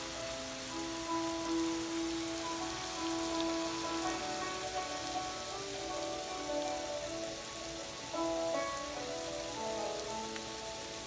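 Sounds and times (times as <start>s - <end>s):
background music of held notes: 0.0s - 11.0s
onions sizzling in oil: 0.0s - 11.0s.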